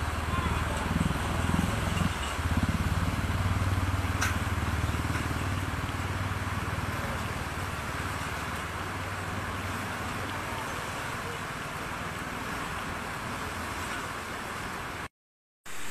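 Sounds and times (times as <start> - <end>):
river rushing: 0.0 - 15.1.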